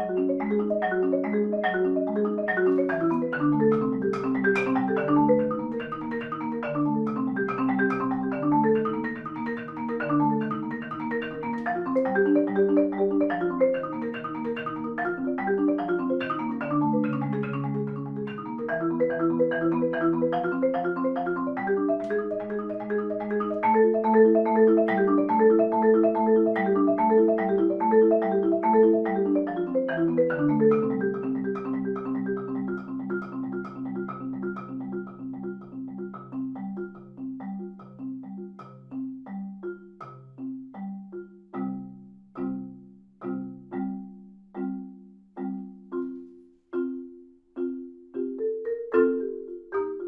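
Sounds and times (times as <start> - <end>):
marimba played with mallets: 0.0 - 50.0.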